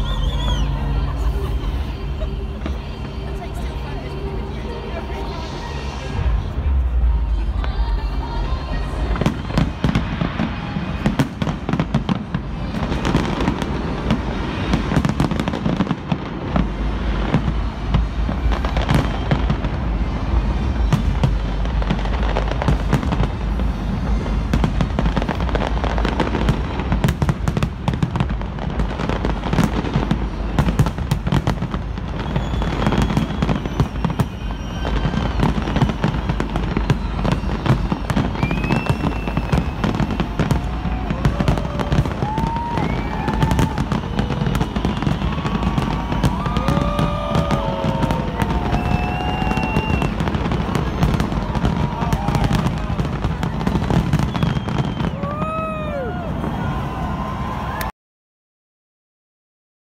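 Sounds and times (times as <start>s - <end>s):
music: 0.0s - 11.8s, 12.8s - 52.4s
fireworks bangs and crackle: 0.0s - 57.9s.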